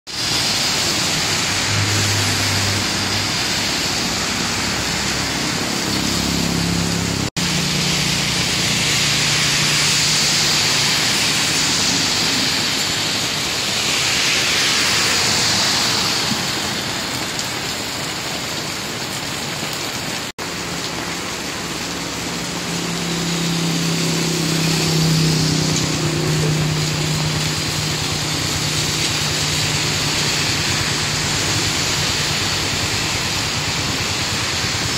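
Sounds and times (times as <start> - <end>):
heavy rain pouring: 0.1 - 34.9
vehicles passing on wet road: 0.1 - 34.9
motorcycle tricycle engine: 0.2 - 17.1, 20.4 - 34.9.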